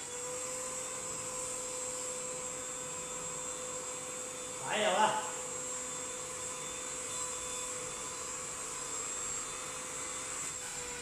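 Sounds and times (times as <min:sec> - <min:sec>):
handheld vacuum cleaner whining: 0:00.0 - 0:11.0.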